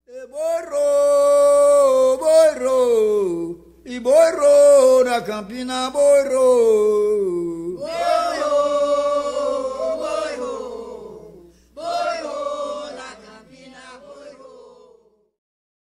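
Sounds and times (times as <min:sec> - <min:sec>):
voices singing a chant: 0:00.1 - 0:15.4.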